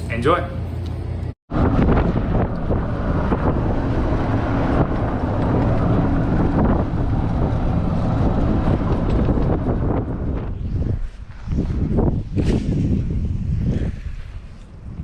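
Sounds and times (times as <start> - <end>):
wind buffeting microphone: 1.5 - 15.0.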